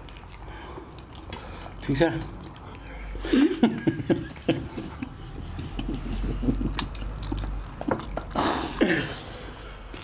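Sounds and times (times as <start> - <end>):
chewing dumplings with wet smacks: 0.0 - 10.0.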